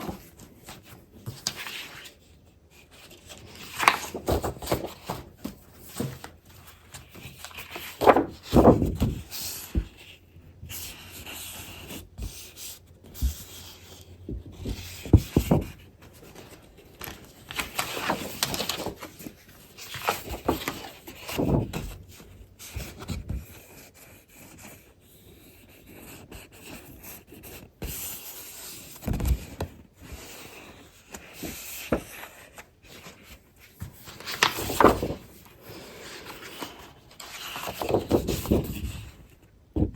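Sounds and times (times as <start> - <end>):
paper rustling and crinkling: 0.0 - 24.8, 26.6 - 39.9.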